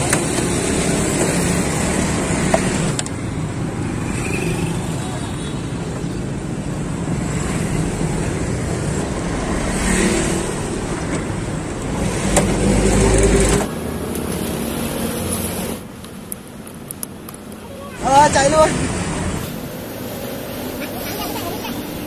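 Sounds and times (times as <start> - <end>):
passing vehicle rumble: 0.0 - 16.0, 17.7 - 22.0
road traffic: 0.0 - 22.0.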